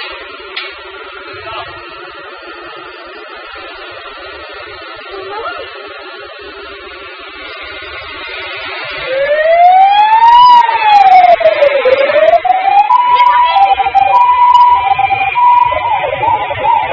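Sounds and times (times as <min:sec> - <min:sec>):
fire truck siren wailing: 0:00.0 - 0:16.9
truck engine running: 0:00.0 - 0:16.9.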